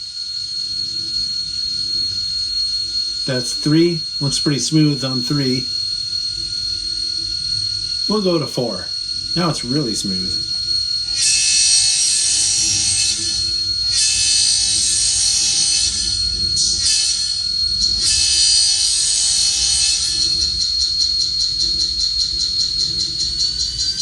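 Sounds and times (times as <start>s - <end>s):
steady high whine: 0.0s - 24.0s.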